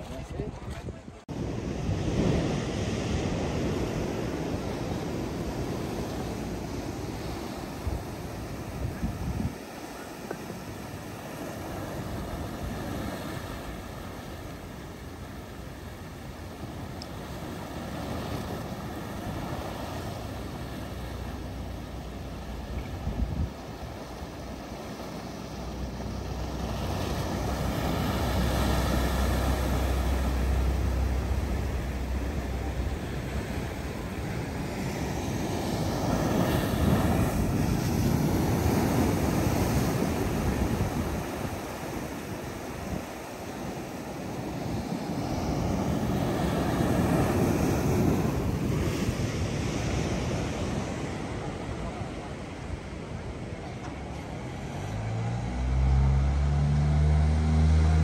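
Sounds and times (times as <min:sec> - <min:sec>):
surf washing in: 0:00.0 - 0:58.0
wind rumbling on microphone: 0:00.0 - 0:58.0.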